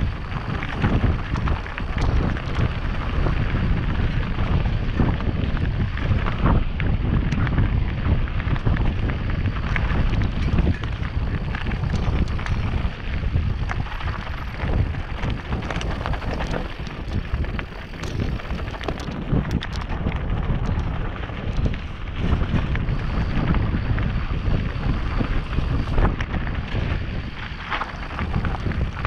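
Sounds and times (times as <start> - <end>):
bike rattling and clicking: 0.0 - 29.0
tyres crunching over gravel: 0.0 - 29.0
wind buffeting microphone: 0.0 - 29.0.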